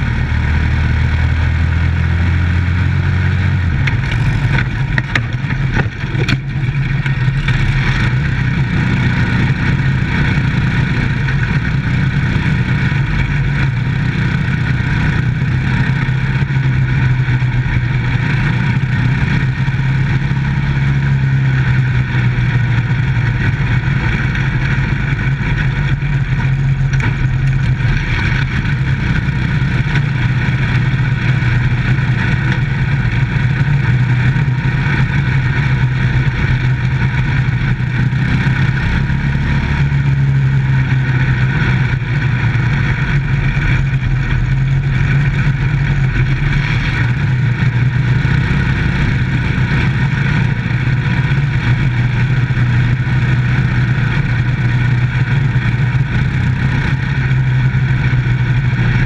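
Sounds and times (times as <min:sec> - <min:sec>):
race car engine at high revs: 0:00.0 - 0:59.0
rumble of car and track noise: 0:00.0 - 0:59.0.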